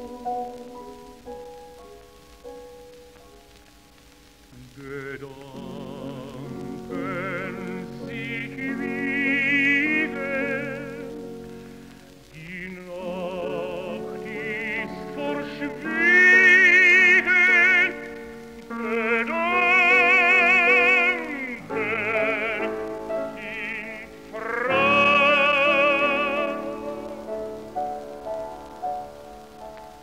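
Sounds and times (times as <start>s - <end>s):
tenor singing with vibrato: 0.0s - 1.7s, 4.5s - 29.7s
piano accompaniment: 0.0s - 30.0s.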